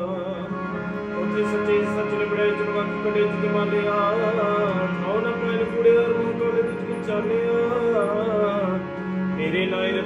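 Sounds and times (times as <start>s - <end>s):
harmonium: 0.0s - 10.0s
man singing: 0.0s - 10.0s.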